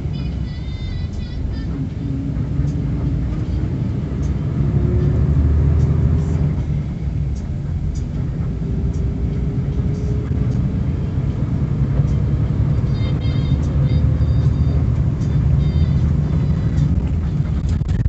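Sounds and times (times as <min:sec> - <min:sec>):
bus engine and tyres rumbling: 0:00.0 - 0:18.0.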